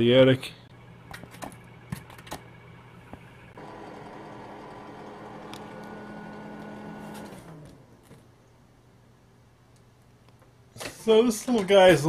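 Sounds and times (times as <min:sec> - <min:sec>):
ventilation fan humming: 0:00.0 - 0:12.0.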